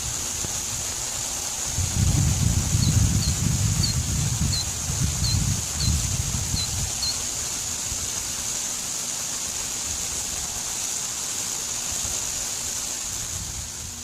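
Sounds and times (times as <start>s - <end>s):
high-pitched corona discharge hiss: 0.0s - 14.0s.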